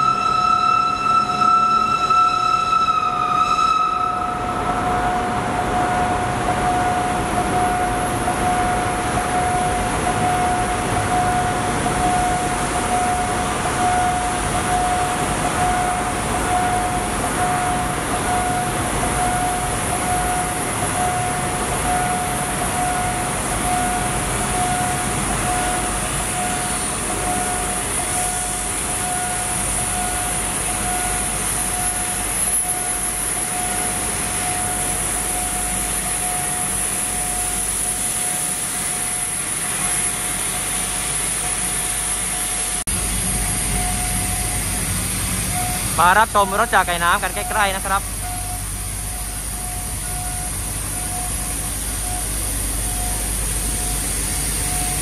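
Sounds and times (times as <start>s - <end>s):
level crossing alarm tone: 0.0s - 39.4s, 43.4s - 44.8s, 45.5s - 55.0s
train and station rumbling hiss: 0.0s - 55.0s.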